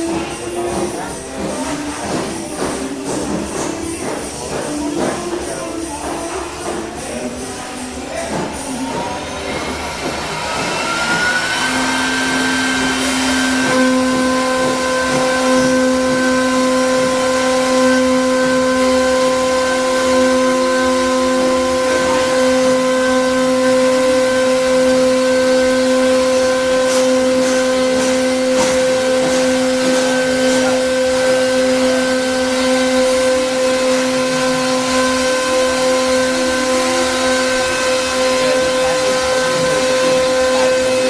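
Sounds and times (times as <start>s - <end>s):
router spindle whine: 7.9s - 41.0s.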